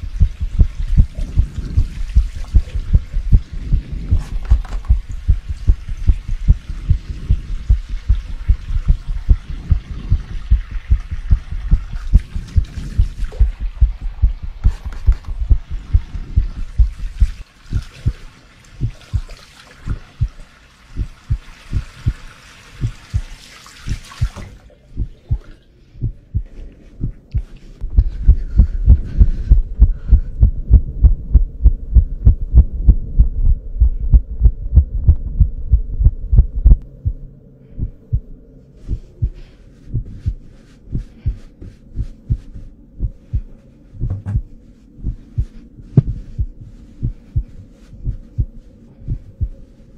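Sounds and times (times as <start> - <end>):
fast heartbeat: 0.0 - 19.3, 19.9 - 20.4, 21.0 - 24.4, 25.0 - 49.8.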